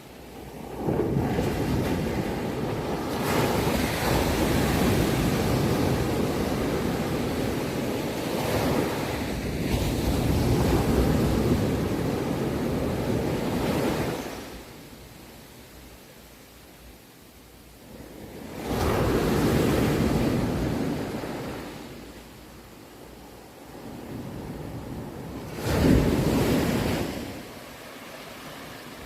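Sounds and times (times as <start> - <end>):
ocean waves breaking: 0.0 - 14.6, 18.2 - 22.1, 23.3 - 29.0.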